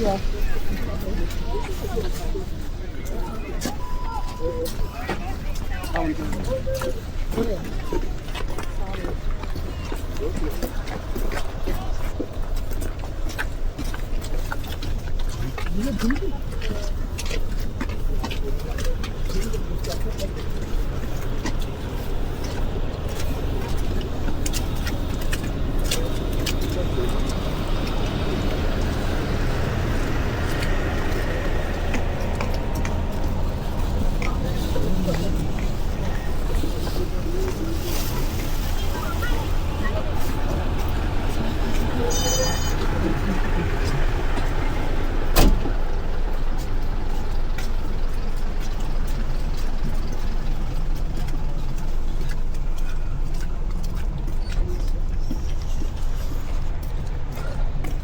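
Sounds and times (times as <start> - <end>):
vehicle rumble: 0.0 - 58.0.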